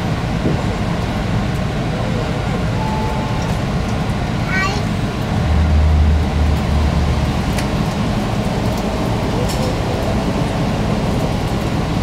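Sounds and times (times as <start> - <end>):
diesel train rumbling on rails: 0.0 - 12.0.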